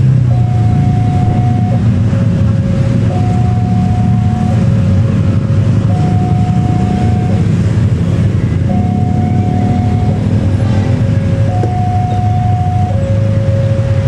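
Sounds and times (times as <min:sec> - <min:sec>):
steady low rumble: 0:00.0 - 0:14.0
level crossing two-tone alarm: 0:00.2 - 0:07.7, 0:08.5 - 0:14.0.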